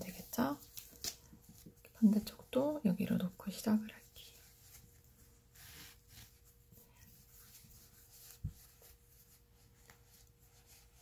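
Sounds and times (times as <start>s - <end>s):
wool yarn rustling: 0.0s - 11.0s.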